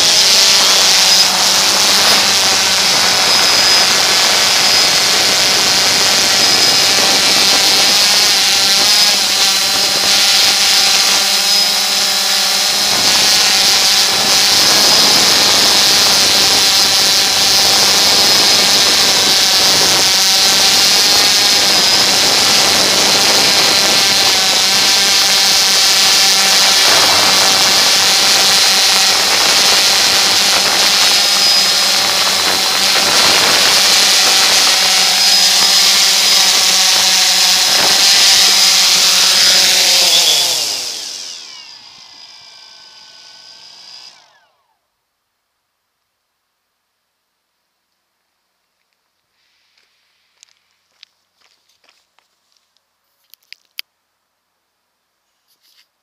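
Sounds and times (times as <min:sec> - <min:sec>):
drone propellers whining: 0:00.0 - 0:44.8.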